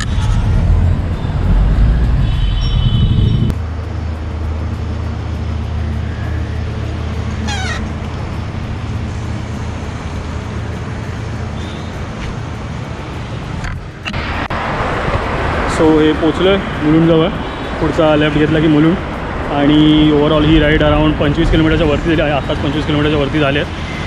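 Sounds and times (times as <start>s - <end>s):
passing motor vehicles rumble: 0.0s - 24.0s
wind on microphone: 0.0s - 24.0s.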